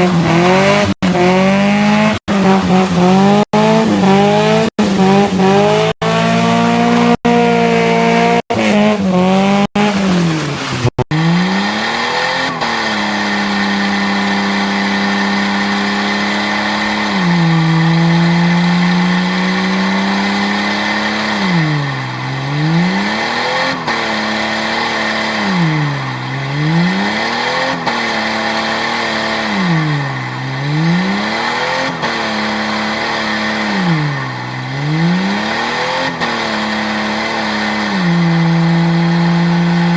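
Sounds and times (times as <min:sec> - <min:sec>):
engine at high revs: 0:00.0 - 0:39.9.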